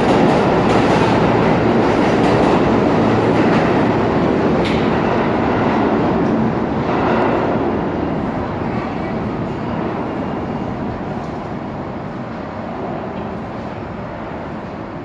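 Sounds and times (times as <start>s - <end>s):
subway train rail rumble: 0.0s - 15.0s.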